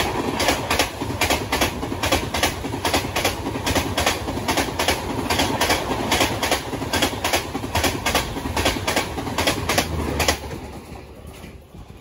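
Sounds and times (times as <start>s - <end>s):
train wheels rumbling on rail: 0.0s - 12.0s
wheel clacks: 0.0s - 12.0s.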